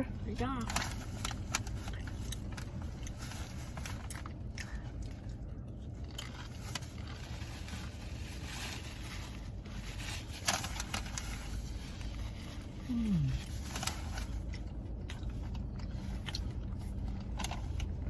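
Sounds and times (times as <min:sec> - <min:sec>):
car engine and ac hum: 0:00.0 - 0:18.0
chewing crisp chips: 0:00.9 - 0:18.0.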